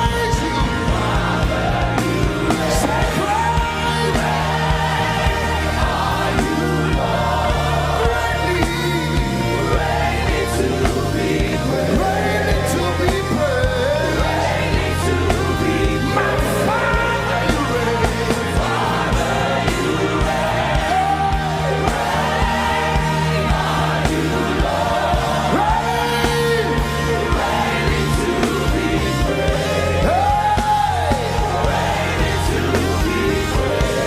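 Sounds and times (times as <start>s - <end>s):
band playing sustained chords: 0.0s - 34.0s.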